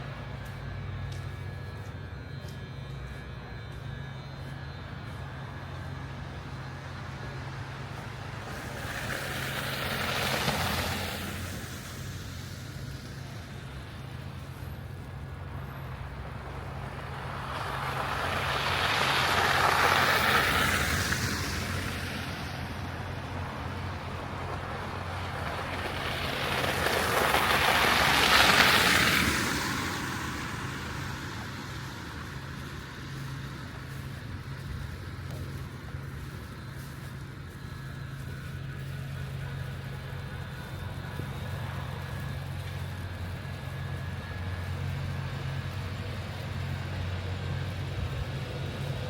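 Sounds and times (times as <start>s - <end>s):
low street hum: 0.0s - 49.0s
vehicles passing with tyre hiss: 0.0s - 49.0s.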